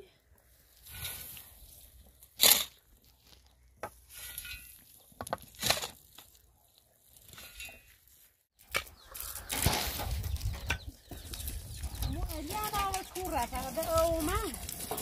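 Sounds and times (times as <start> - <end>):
hands scraping gravelly soil: 0.4 - 15.0.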